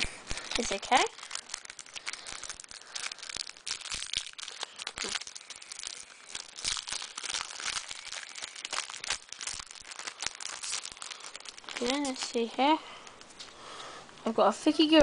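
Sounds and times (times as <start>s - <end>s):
wrapper crinkling and tearing: 0.0s - 13.2s.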